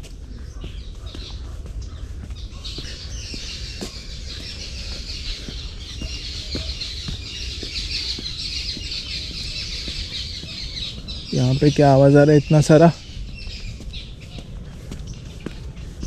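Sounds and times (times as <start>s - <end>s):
birds chattering: 0.0s - 16.0s
footsteps on flagstone path: 0.0s - 16.0s.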